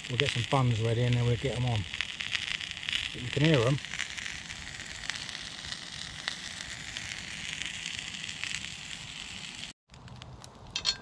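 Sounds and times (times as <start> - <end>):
sausages sizzling on griddle: 0.0 - 9.8.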